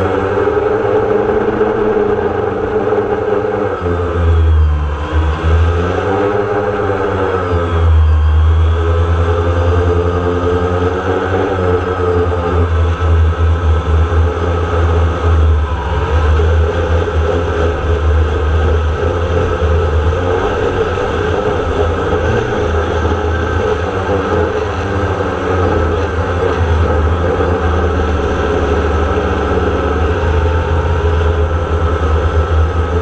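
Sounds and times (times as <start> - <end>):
drone propellers buzzing hum: 0.0 - 33.0.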